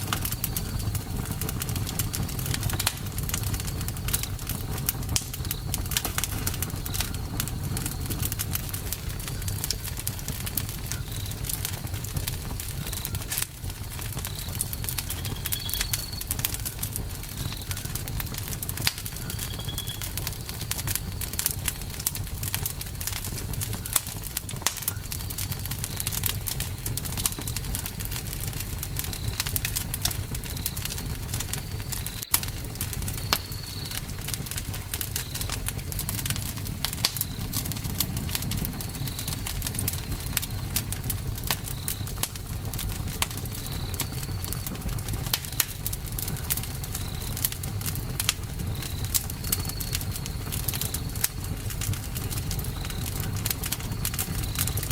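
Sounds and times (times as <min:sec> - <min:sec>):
campfire crackling: 0:00.0 - 0:54.9.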